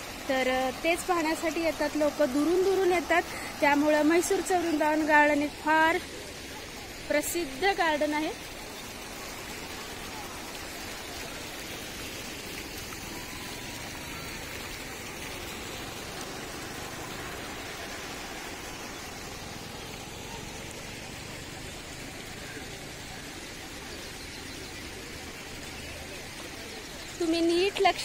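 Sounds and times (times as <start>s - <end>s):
fountain water gurgling: 0.0s - 28.0s.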